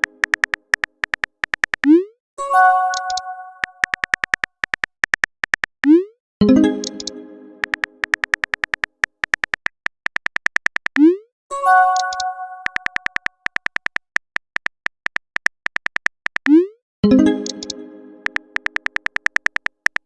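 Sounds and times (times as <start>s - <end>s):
keyboard tap clicks: 0.0s - 2.0s, 2.9s - 6.0s, 6.8s - 11.1s, 12.0s - 16.6s, 17.4s - 20.0s.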